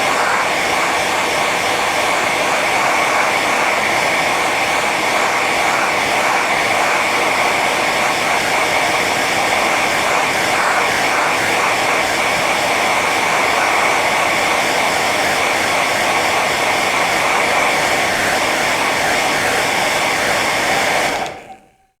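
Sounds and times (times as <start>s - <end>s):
hair dryer running: 0.0s - 22.0s.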